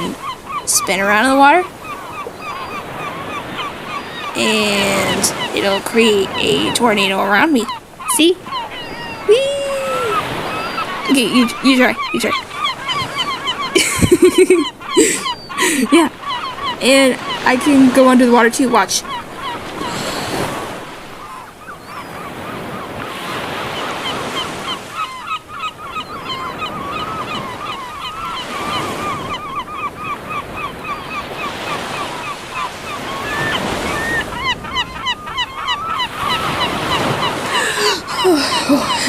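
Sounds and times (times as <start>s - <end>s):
surf washing: 0.0s - 39.0s.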